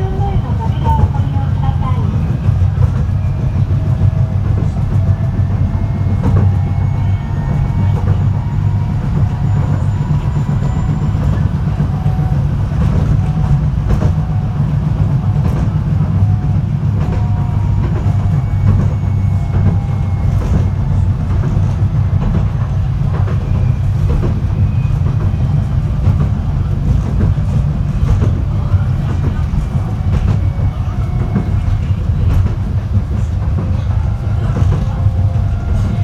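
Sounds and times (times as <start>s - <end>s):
train car rumble: 0.0s - 36.0s
wheels clicking over track: 0.0s - 36.0s.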